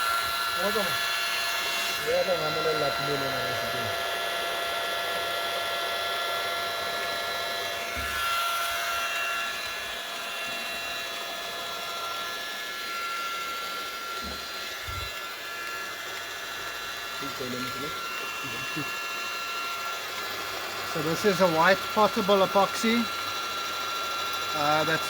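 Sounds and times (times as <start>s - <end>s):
high-pitched motor whine: 0.0s - 25.0s.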